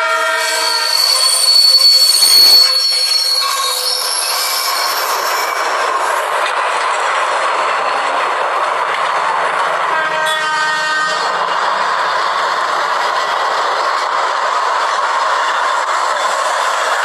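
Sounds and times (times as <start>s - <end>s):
train wheel squeal: 0.0s - 6.6s, 9.9s - 17.0s
train rolling on rails: 0.0s - 17.0s.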